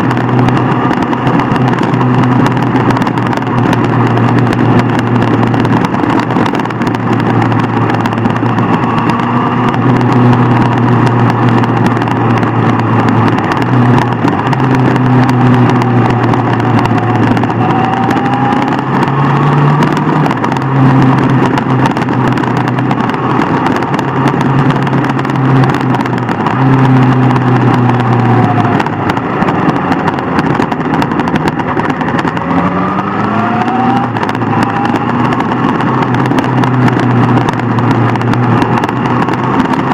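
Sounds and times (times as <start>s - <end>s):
constant rush of noise: 0.0s - 39.9s
motorcycle engine running: 0.0s - 39.9s.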